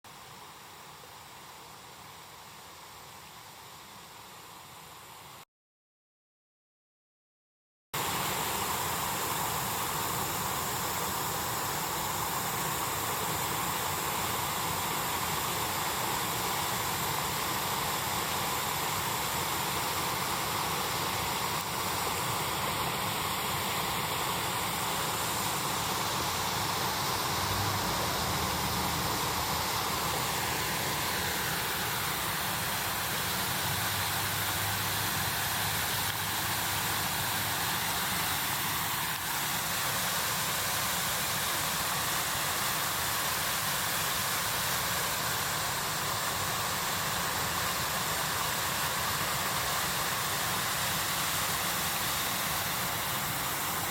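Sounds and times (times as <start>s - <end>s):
waterfall rushing: 8.0s - 53.9s.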